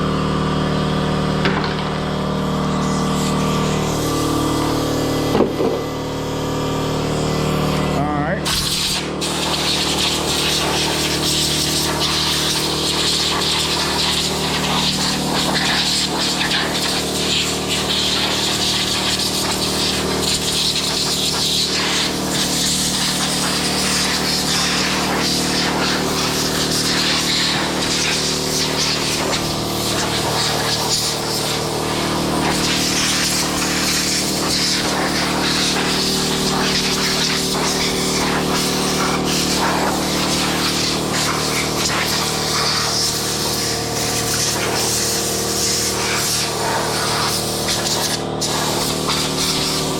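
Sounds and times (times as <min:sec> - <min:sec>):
motor humming: 0:00.0 - 0:49.9.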